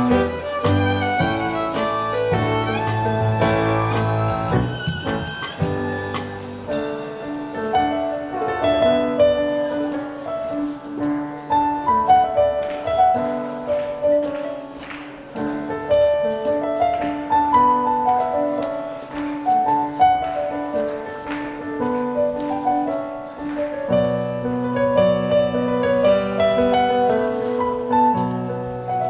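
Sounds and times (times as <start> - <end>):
digital piano dance tune: 0.0 - 29.0.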